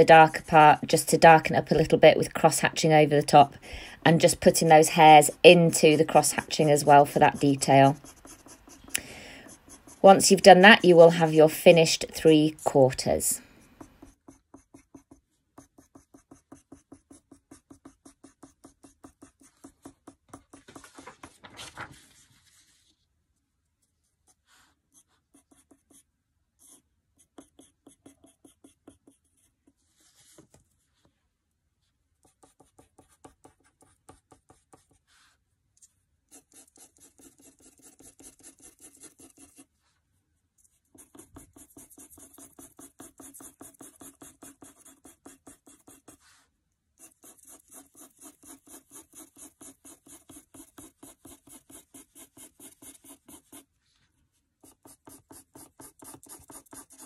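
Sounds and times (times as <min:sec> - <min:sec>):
pencil scratching on paper: 0:00.0 - 0:21.4, 0:24.2 - 0:30.9, 0:32.2 - 0:35.4, 0:36.3 - 0:39.7, 0:40.6 - 0:53.7, 0:54.6 - 0:57.0.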